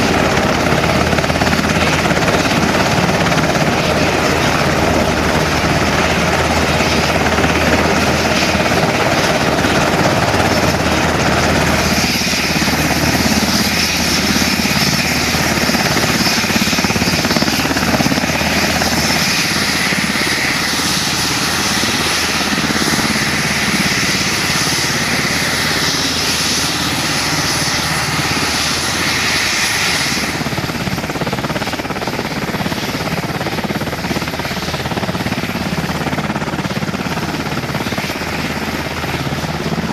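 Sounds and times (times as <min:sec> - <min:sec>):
helicopter rotors chopping: 0:00.0 - 0:39.9
turbine engine whine: 0:00.0 - 0:39.9.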